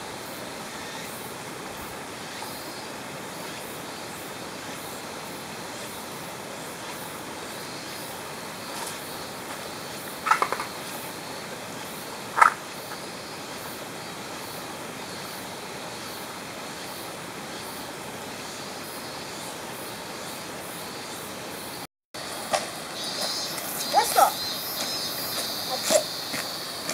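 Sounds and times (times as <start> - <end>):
mountain stream rushing: 0.0 - 26.9.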